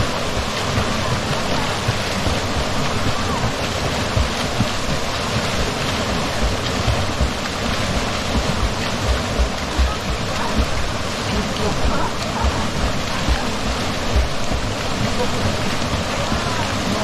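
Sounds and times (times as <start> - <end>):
stream rushing over rocks: 0.0 - 17.0
low thumps: 0.1 - 17.0.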